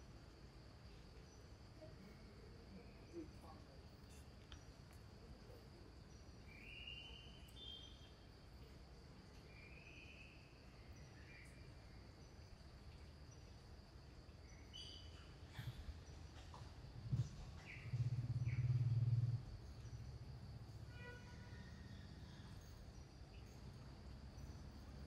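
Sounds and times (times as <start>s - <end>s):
faint chirps: 0.9s - 13.7s, 14.3s - 25.0s.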